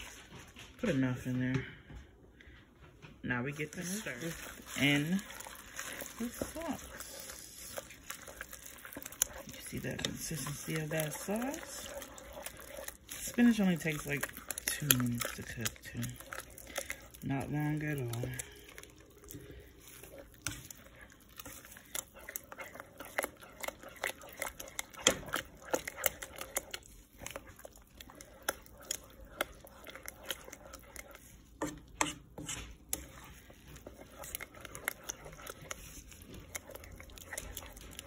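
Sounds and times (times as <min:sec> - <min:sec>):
spoon stirring thick sauce: 0:00.0 - 0:38.0.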